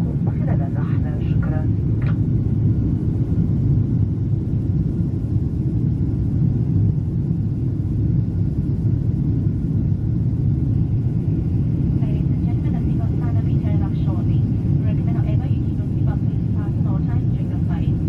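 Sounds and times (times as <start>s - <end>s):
jet engine rumble inside cabin: 0.0s - 18.0s.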